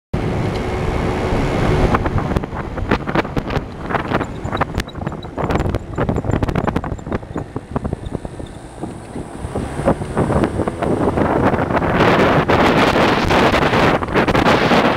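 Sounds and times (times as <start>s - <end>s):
vehicle low running rumble: 0.2s - 14.9s
wind buffeting microphone: 0.2s - 14.9s.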